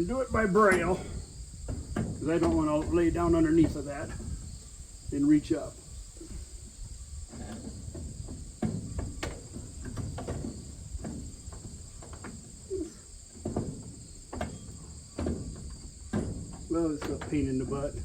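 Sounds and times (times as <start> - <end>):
crickets trilling: 0.0 - 18.0
metal clunks and knocks: 0.0 - 18.0.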